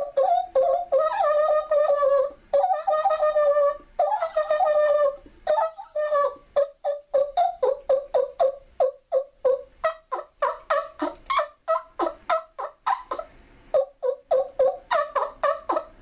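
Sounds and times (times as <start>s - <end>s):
turkey call yelps: 0.0s - 16.0s.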